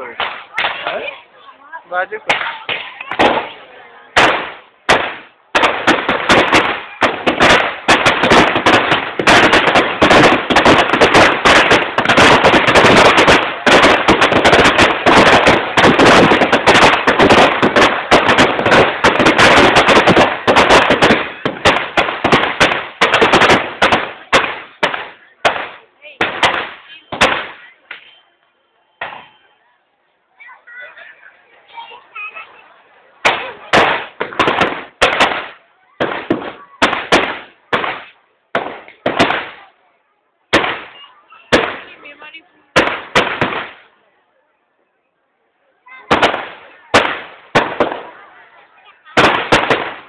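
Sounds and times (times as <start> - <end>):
firecrackers crackling: 0.0 - 29.7, 30.5 - 50.0.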